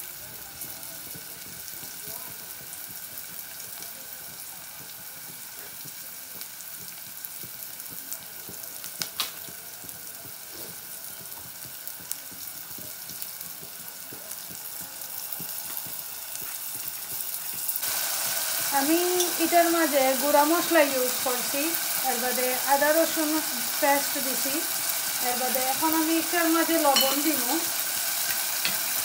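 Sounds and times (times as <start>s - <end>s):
onions sizzling in oil: 0.0s - 29.0s.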